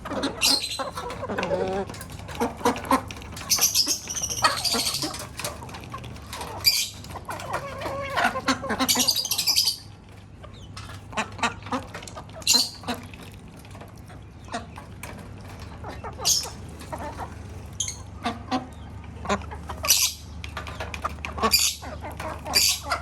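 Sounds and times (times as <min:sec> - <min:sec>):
parrots ducks and hens calling: 0:00.0 - 0:23.0.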